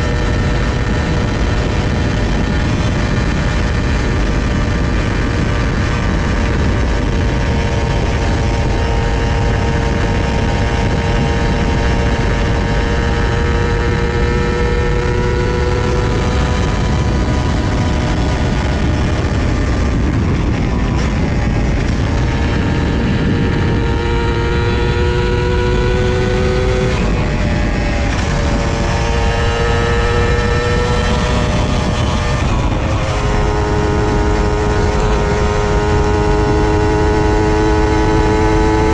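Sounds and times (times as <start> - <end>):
motorcycle engine under way: 0.0 - 38.9
wind rumble on microphone: 0.0 - 38.9.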